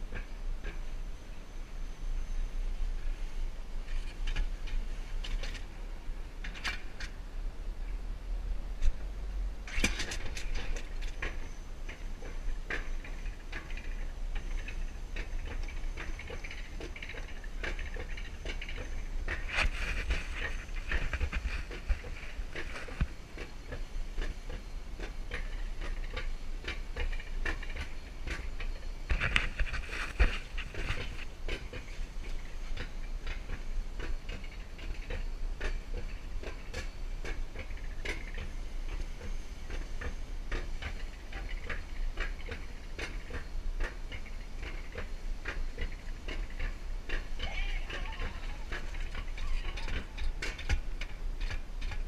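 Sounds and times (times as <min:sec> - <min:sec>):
sled rattling on rail track: 0:00.0 - 0:52.0.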